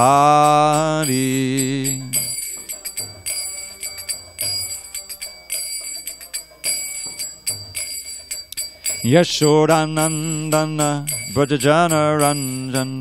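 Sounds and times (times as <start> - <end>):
hand cymbals ringing: 0.0 - 13.0.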